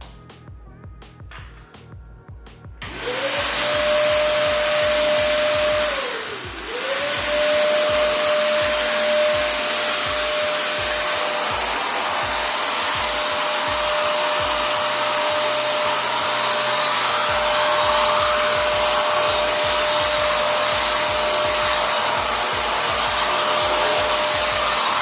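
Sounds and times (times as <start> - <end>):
vacuum cleaner running: 2.8 - 25.0.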